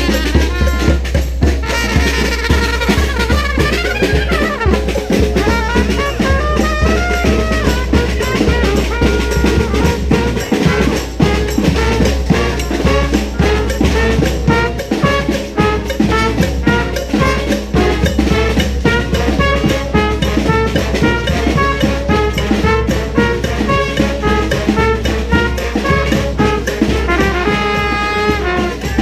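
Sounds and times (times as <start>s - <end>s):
brass band playing: 0.0s - 29.0s
steady drum beat: 0.0s - 29.0s.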